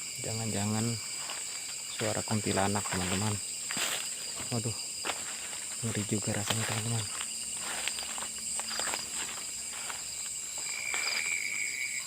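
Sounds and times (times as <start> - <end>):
footsteps in undergrowth: 0.0 - 12.0
low insect-like tone: 0.0 - 12.0
night insects chirping: 0.0 - 12.0.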